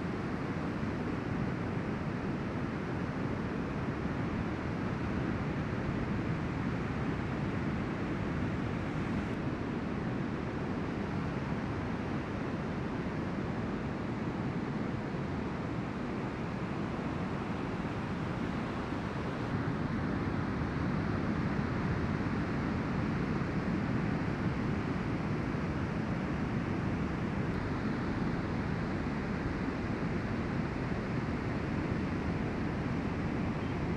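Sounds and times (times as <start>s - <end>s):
ocean surf on a beach: 0.1s - 33.9s.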